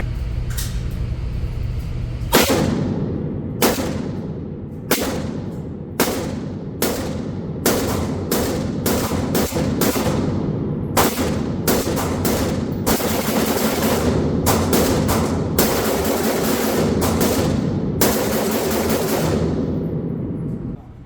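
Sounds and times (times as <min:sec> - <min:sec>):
steady low background sound: 0:00.0 - 0:20.9
rifle shots: 0:02.3 - 0:20.4.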